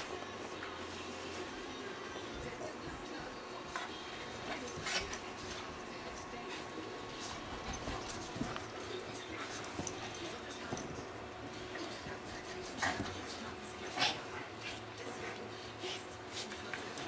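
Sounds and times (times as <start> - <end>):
small dogs play-fighting: 0.0 - 17.0.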